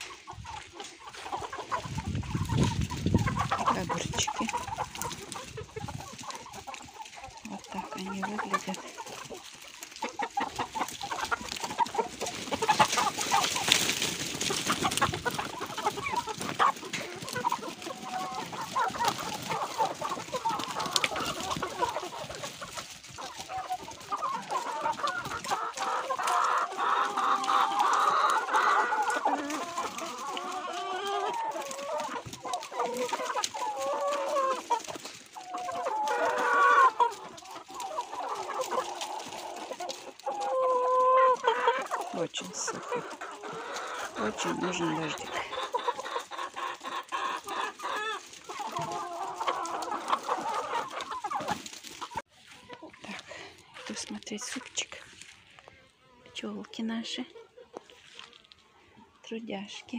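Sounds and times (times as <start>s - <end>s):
rustling: 0.0s - 26.8s, 27.4s - 56.1s, 57.8s - 59.0s
hens clucking: 0.0s - 59.9s.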